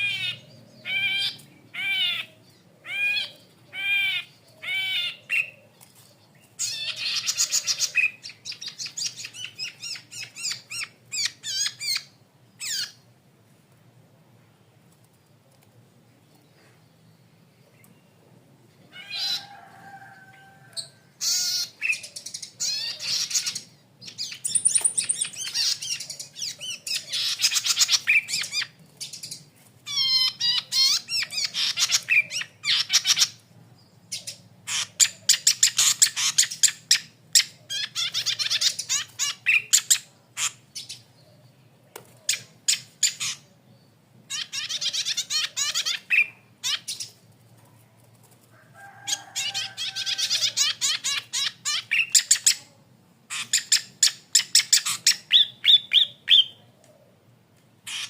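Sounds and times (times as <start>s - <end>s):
bird chattering song: 0.0s - 13.1s, 20.8s - 47.2s, 49.3s - 56.8s.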